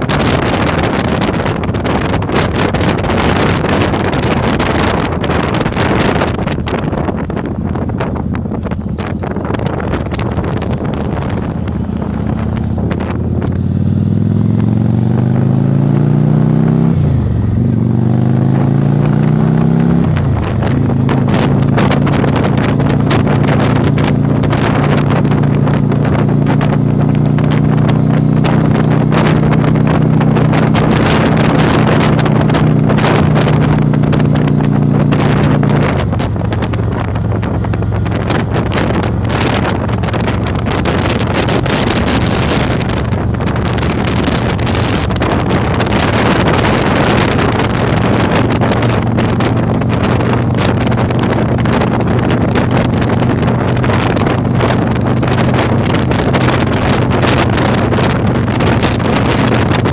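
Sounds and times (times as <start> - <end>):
motorcycle engine accelerating: 0.0 - 59.9
wind buffeting microphone: 0.0 - 59.9.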